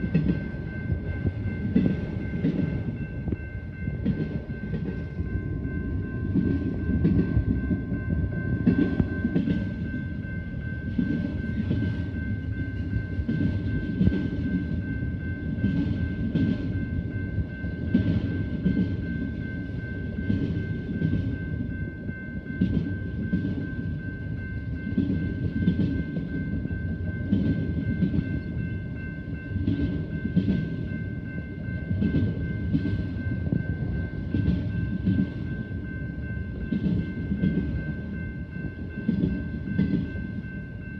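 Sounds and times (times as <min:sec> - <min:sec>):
train rumbling past: 0:00.0 - 0:40.9.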